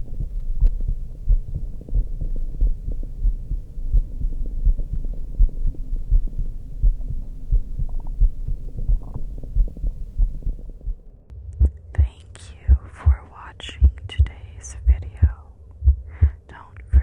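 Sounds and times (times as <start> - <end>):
constant low hum: 0.0 - 17.0
heartbeat thumps through stethoscope: 0.0 - 17.0.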